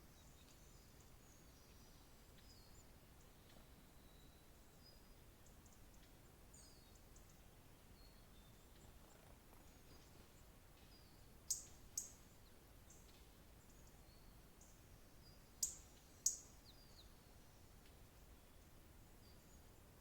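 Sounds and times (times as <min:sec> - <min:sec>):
small birds chirping faintly: 0:00.0 - 0:20.0.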